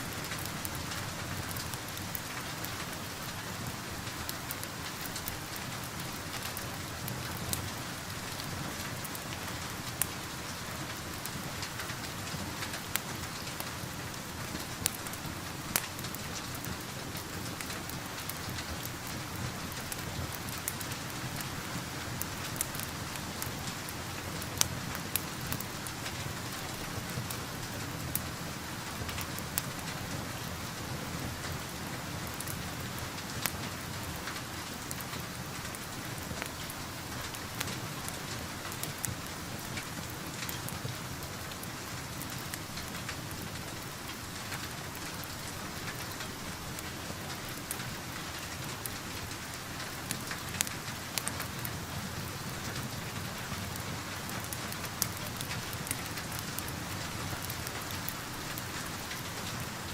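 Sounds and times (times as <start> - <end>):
rain heard from indoors: 0.0 - 59.9
wood fire crackling: 0.0 - 59.9.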